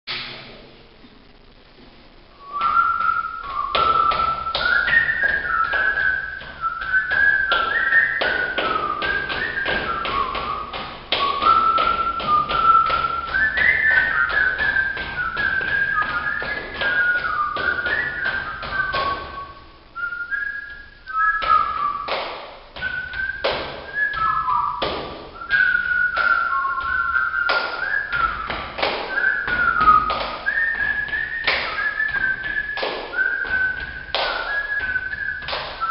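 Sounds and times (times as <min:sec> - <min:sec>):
person whistling a tune: 0:02.4 - 0:22.2, 0:22.8 - 0:35.9
body percussion taps and slaps: 0:02.5 - 0:19.5, 0:20.7 - 0:35.9.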